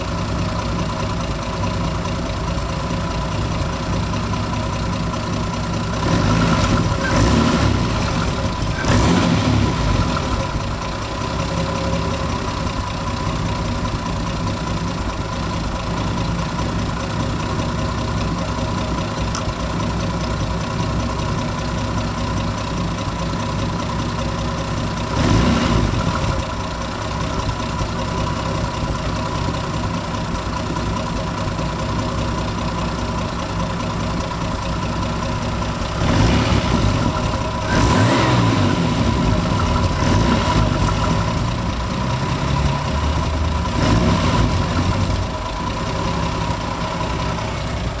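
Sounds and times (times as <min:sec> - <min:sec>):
engine idling and revving: 0:00.0 - 0:48.0.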